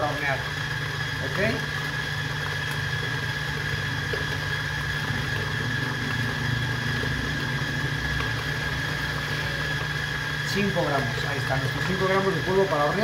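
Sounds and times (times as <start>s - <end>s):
mixer paddle beating butter: 0.0s - 13.0s
stand mixer motor humming: 0.0s - 13.0s.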